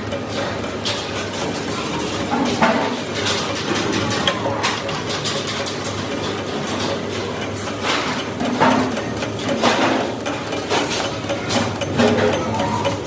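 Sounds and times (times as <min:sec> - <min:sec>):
machinery running: 0:00.0 - 0:13.0
metallic knocks and clatter: 0:00.8 - 0:13.0.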